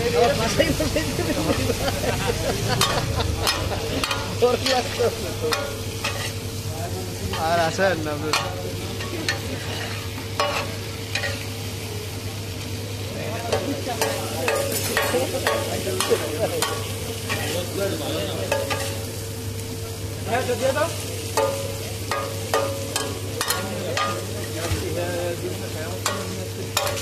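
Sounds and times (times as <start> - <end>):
hot oil sizzling: 0.0 - 27.0
metal spatula scraping griddle: 0.2 - 11.5, 13.5 - 19.2, 20.4 - 27.0.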